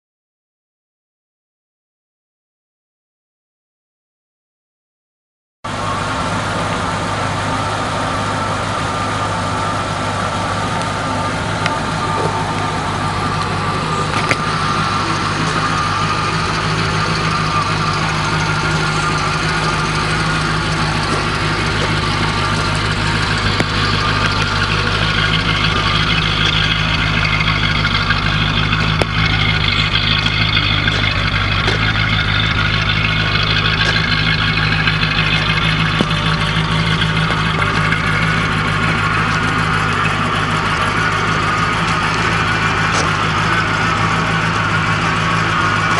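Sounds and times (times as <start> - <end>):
car engine idling: 5.6 - 45.9.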